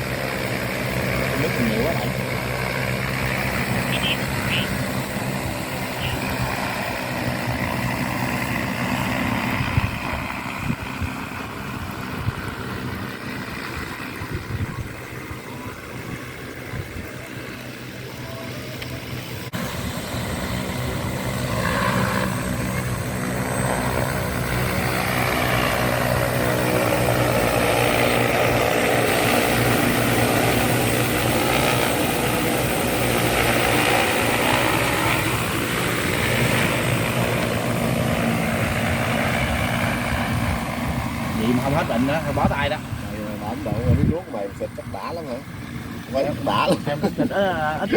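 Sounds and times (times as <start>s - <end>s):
drone rotors humming: 0.0s - 47.9s.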